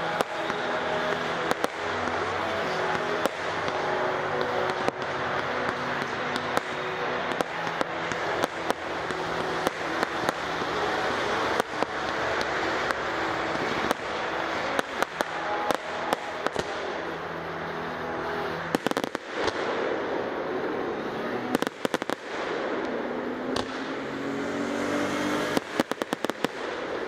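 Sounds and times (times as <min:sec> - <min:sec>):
fireworks bursting with bangs: 0:00.0 - 0:24.2, 0:25.1 - 0:27.0.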